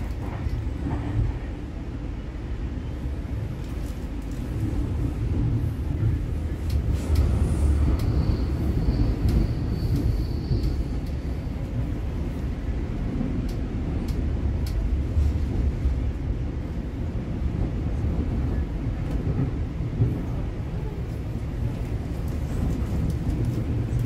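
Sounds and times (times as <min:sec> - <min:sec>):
train carriage rumbling on track: 0:00.0 - 0:24.0.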